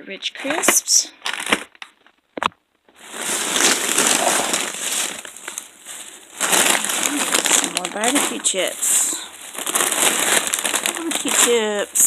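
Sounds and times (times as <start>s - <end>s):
plastic bags crinkling and rustling: 0.4s - 2.2s, 2.9s - 12.0s.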